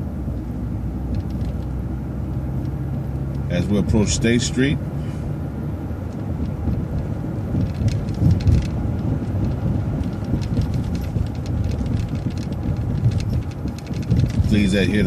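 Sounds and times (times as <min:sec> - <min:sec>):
bus engine and road rumble: 0:00.0 - 0:15.0
light rattles and clicks: 0:00.3 - 0:04.8, 0:05.9 - 0:15.0.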